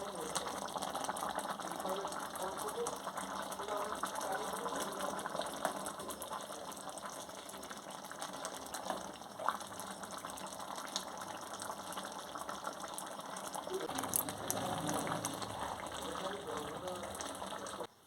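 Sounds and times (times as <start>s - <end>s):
curry bubbling in a pot: 0.0s - 18.0s.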